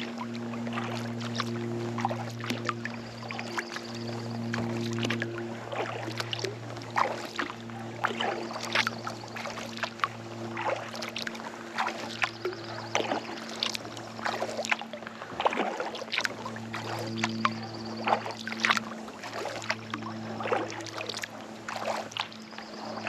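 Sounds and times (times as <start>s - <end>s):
paddle strokes in water: 0.0s - 23.0s
steady low hum: 0.0s - 23.0s
water splashes and drips: 0.0s - 23.0s.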